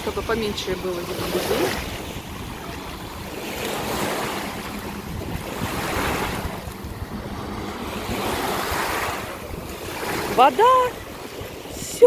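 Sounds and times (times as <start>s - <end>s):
sea waves washing on sandy shore: 0.0s - 12.0s
wind rumbling on microphone: 0.0s - 12.0s.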